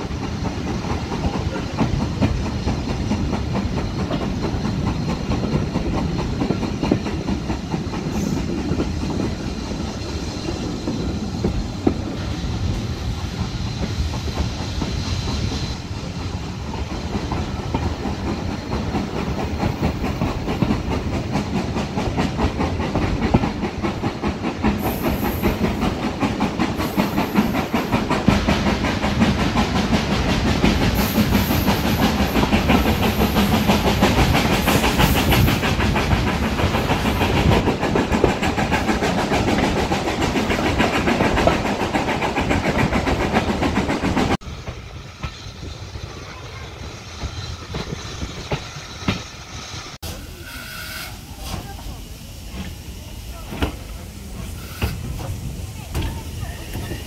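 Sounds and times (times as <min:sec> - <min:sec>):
train rumble: 0:00.0 - 0:57.0
train wheels clickety-clack on rails: 0:00.0 - 0:57.0.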